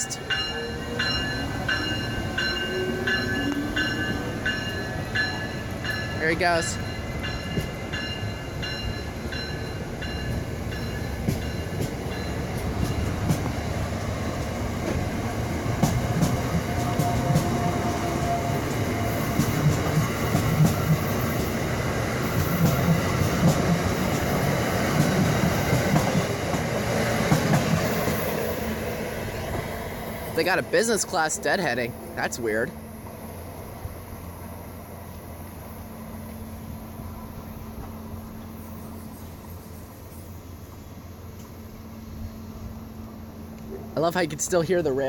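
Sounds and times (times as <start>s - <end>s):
train cars rumbling: 0.0s - 45.0s.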